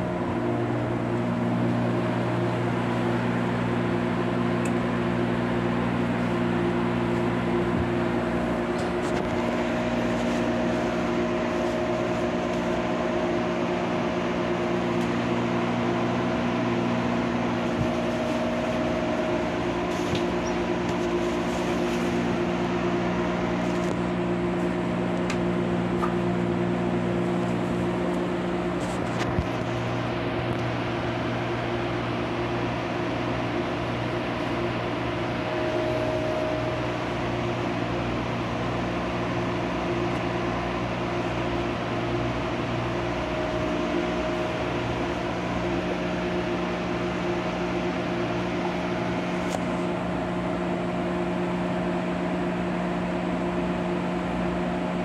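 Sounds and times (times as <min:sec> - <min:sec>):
machinery and ventilation noise: 0:00.0 - 0:55.0
train cabin hum: 0:00.0 - 0:55.0.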